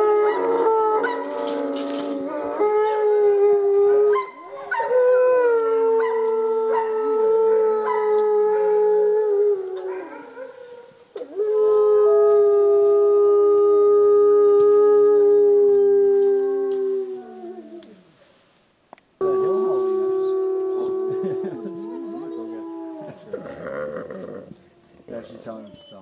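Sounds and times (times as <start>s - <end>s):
wolves howling: 0.0s - 18.0s, 19.2s - 25.7s.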